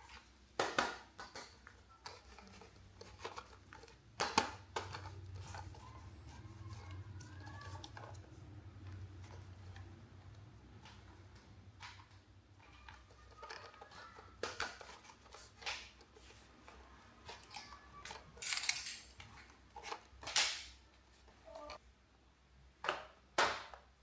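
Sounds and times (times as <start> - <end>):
plastic toys being handled: 0.0 - 21.8.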